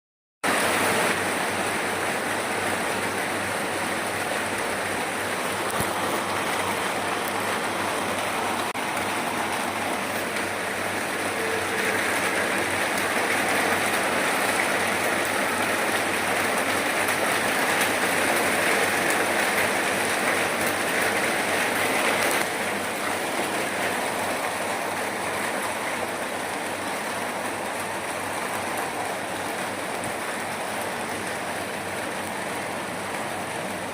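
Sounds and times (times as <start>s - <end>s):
steady rain falling: 0.4s - 33.9s.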